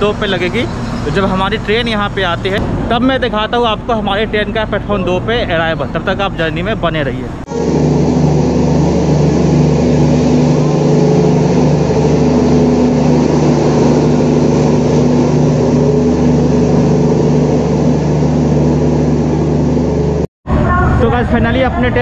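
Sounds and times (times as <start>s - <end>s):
diesel generator drone: 0.0s - 22.0s.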